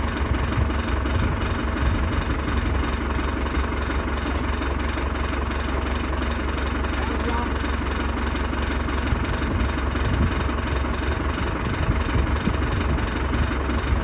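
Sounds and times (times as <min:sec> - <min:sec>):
tractor diesel engine rumbling: 0:00.0 - 0:14.0.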